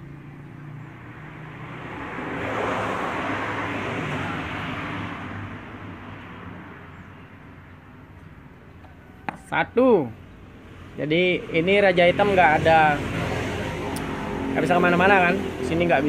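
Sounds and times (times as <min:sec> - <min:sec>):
vehicle passing by: 0:00.0 - 0:08.6, 0:09.5 - 0:16.0.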